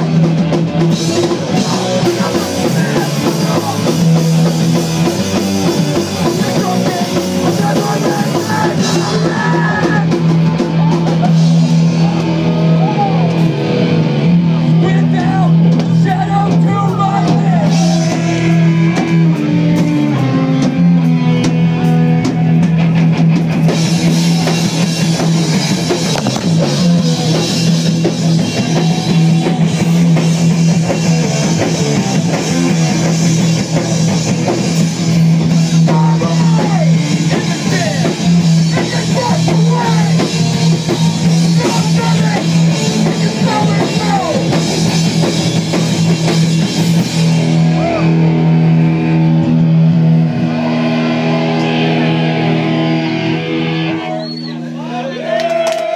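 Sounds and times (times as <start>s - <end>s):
drum kit: 0.0s - 54.7s
distorted electric guitar: 0.0s - 55.2s
bass guitar: 0.0s - 55.9s.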